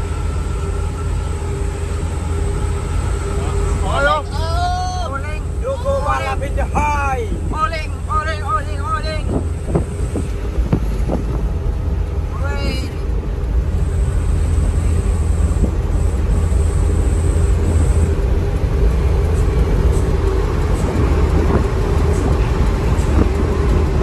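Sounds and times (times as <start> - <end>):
bus engine drone and road noise: 0.0 - 24.0
faint high whine: 0.0 - 24.0.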